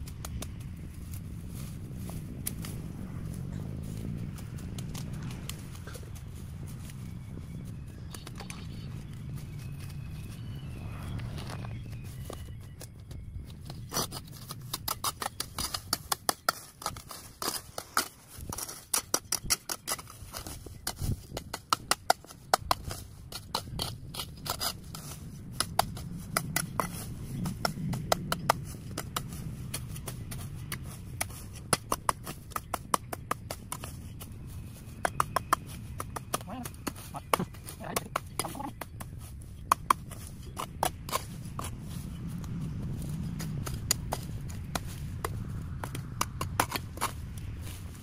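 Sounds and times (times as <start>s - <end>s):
low steady rumble: 0.0s - 19.0s, 22.4s - 48.0s.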